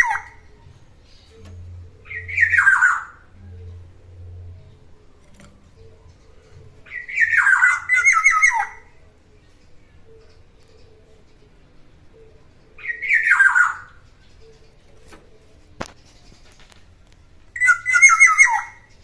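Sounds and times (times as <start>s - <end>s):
bird calling: 0.0s - 16.6s, 17.6s - 19.0s.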